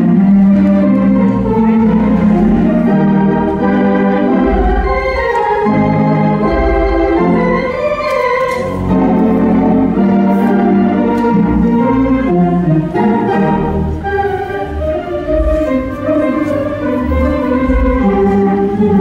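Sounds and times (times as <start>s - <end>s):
theatre pipe organ chords: 0.0s - 19.0s.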